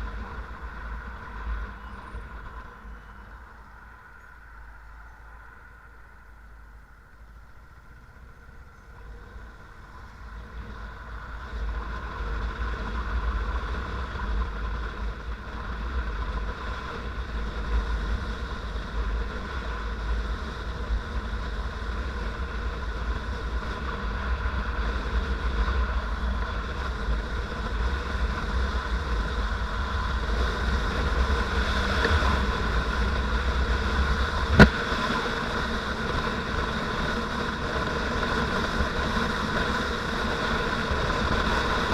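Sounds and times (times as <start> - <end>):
motorcycle engine running: 0.0 - 3.6, 7.5 - 41.9
wind rumble on microphone: 0.0 - 41.9.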